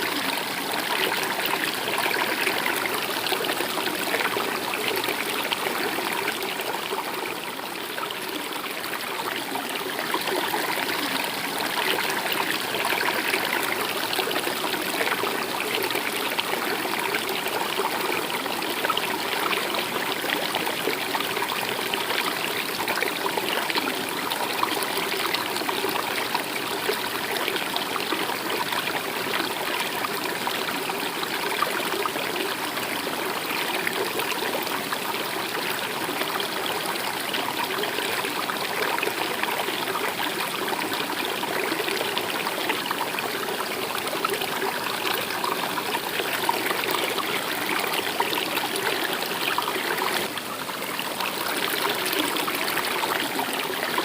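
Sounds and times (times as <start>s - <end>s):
stream trickling and burbling: 0.0s - 54.0s.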